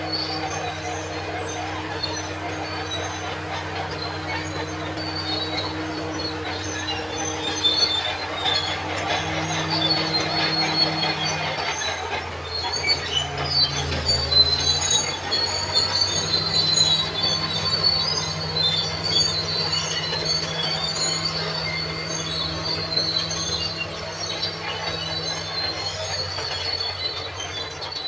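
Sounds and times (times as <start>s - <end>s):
diesel engine running: 0.0s - 28.0s
steel tracks squealing: 0.0s - 28.0s.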